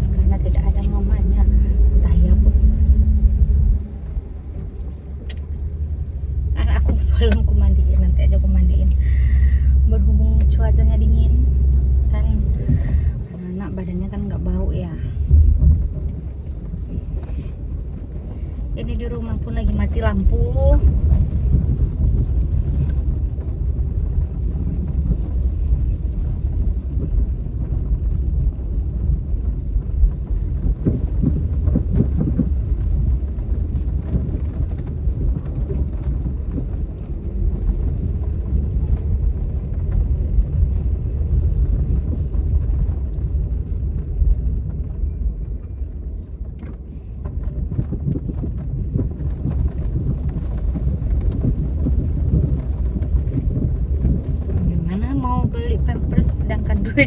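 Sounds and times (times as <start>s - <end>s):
storm wind buffeting microphone: 0.0s - 57.0s.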